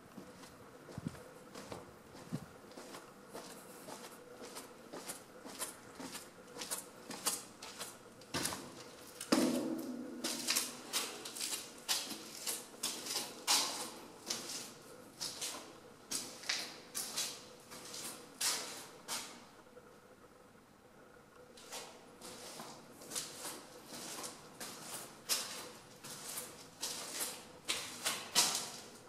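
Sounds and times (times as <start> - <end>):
footsteps on gritty concrete: 0.2 - 18.3, 22.2 - 29.0.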